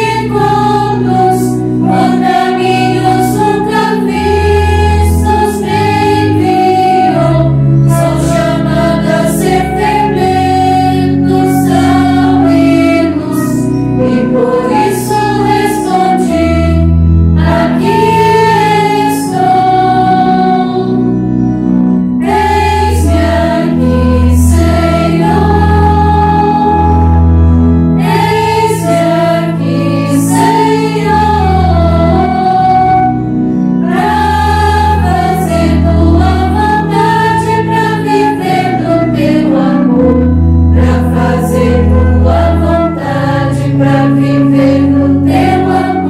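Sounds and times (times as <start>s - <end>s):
choir of women singing a hymn: 0.0s - 46.0s
low sustained bass notes: 0.0s - 46.0s.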